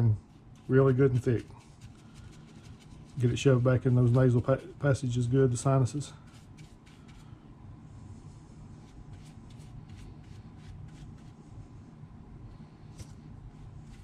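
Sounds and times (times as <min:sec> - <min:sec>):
scratchy brush strokes: 0:00.0 - 0:05.2, 0:06.0 - 0:12.0, 0:12.8 - 0:14.0
low steady hum: 0:00.0 - 0:14.0.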